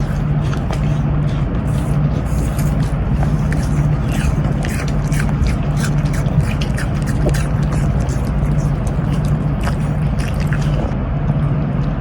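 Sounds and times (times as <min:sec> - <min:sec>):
dog crunching apple: 0:00.0 - 0:12.0
steady low hum: 0:00.0 - 0:12.0.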